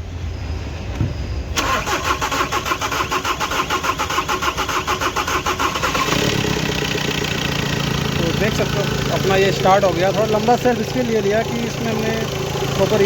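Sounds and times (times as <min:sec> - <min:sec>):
diesel engine cranking on starter: 0:01.5 - 0:13.0.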